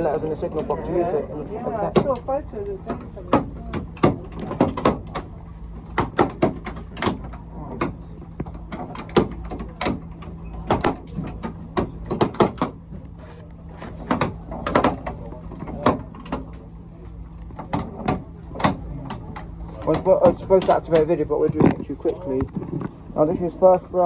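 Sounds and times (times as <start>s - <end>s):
steady low hum: 0.0s - 24.0s
sharp clicks and knocks: 1.7s - 23.0s.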